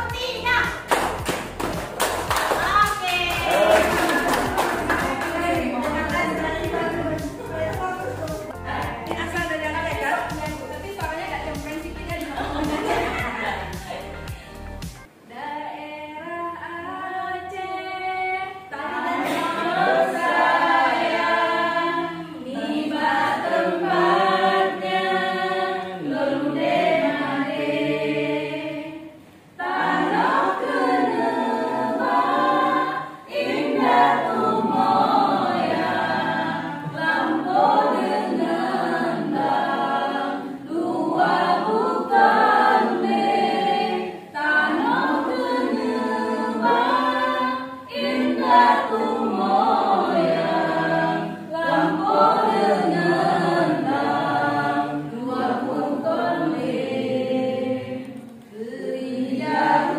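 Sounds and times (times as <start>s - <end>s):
group singing a cappella: 0.0s - 59.9s.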